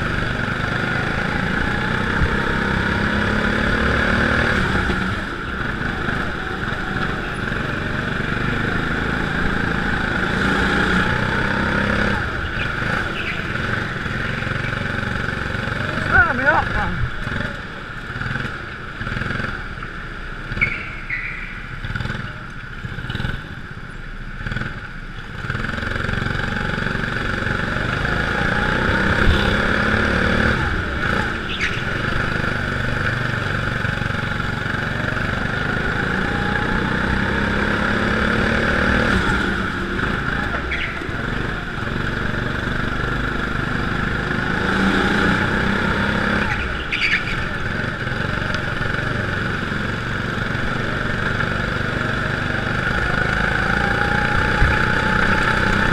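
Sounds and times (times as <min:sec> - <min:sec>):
go-kart engine accelerating: 0:00.0 - 0:55.9.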